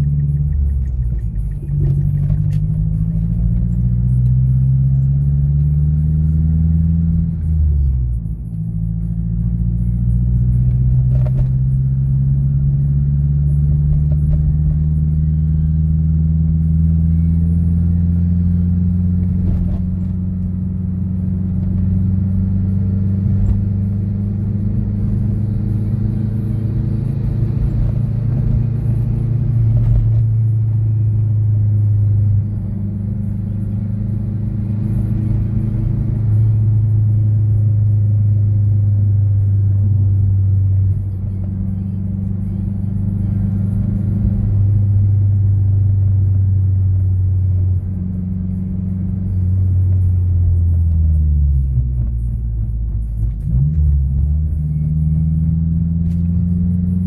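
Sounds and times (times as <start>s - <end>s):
car engine drone from inside: 0.0s - 57.0s.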